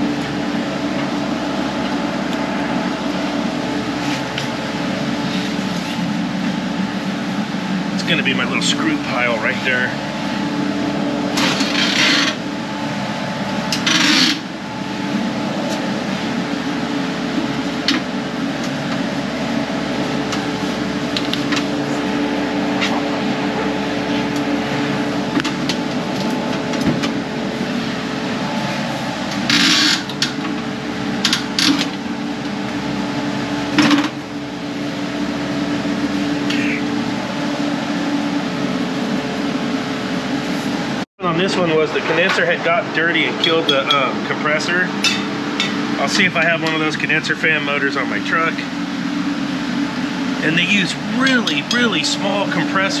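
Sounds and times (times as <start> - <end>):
machinery hum: 0.0 - 53.0.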